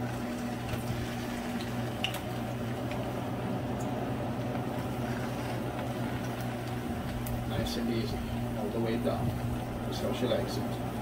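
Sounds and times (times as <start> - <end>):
oil popping: 0.0 - 9.9
plantain sizzling in hot oil: 0.0 - 11.0
steady low hum: 0.0 - 11.0.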